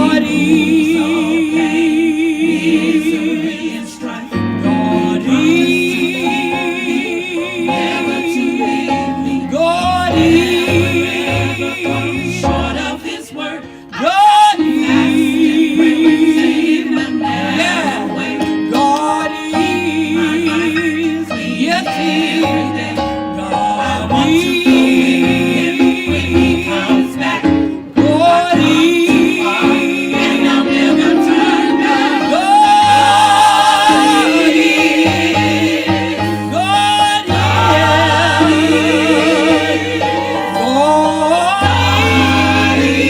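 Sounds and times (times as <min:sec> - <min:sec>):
gospel choir singing: 0:00.0 - 0:43.0
instrumental backing with bass: 0:00.0 - 0:43.0.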